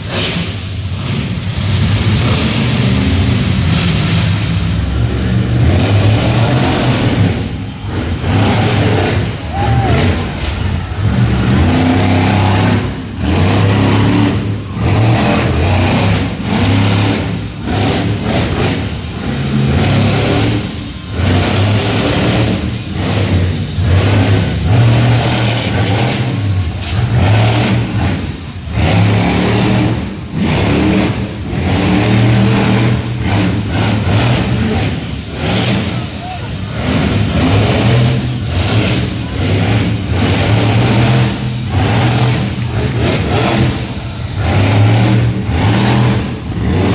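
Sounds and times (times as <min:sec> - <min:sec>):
truck engine revving: 0:00.0 - 0:46.9.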